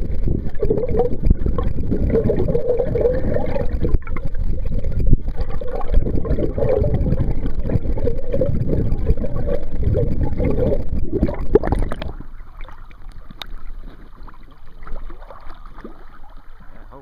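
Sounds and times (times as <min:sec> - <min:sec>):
underwater rushing creek current: 0:00.0 - 0:17.0.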